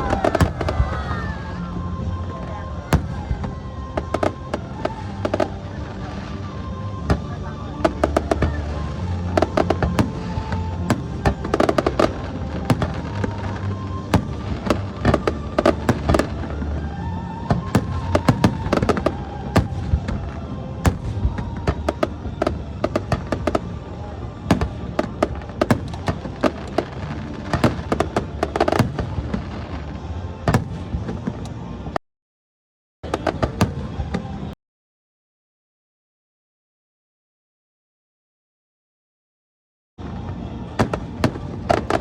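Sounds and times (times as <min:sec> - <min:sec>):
fireworks bangs and crackles: 0:00.0 - 0:32.0, 0:33.0 - 0:34.6, 0:40.0 - 0:42.0
music playing: 0:00.0 - 0:32.0, 0:40.0 - 0:42.0.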